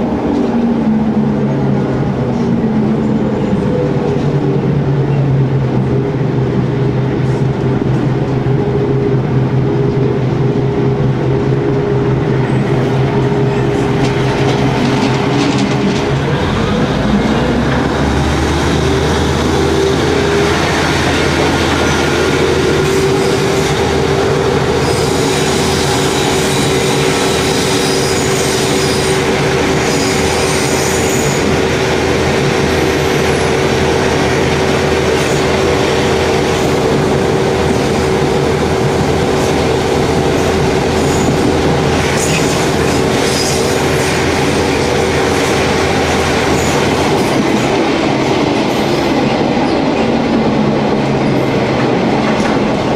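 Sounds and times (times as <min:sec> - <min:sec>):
diesel railcar engine drone: 0:00.0 - 0:52.9
wheels on rail: 0:00.0 - 0:52.9.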